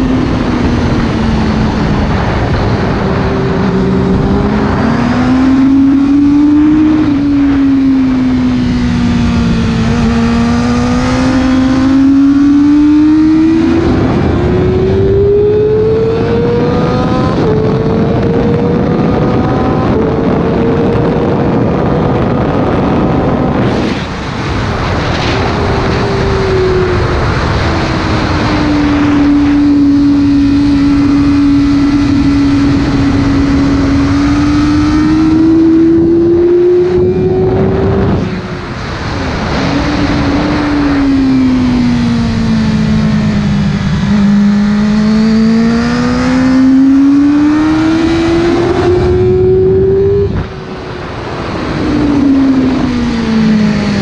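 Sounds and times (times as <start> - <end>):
motorcycle engine at high revs: 0.0 - 54.0
wind noise: 0.0 - 54.0.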